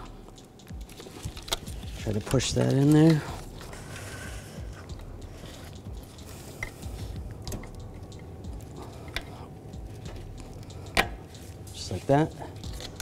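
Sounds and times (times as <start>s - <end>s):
quiet handling noises: 0.0s - 13.0s.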